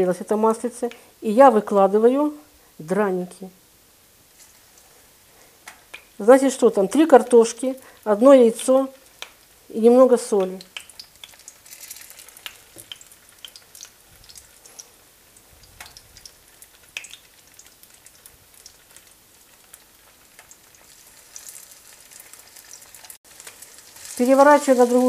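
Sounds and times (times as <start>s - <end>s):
potato pancakes sizzling in oil: 3.8s - 25.0s.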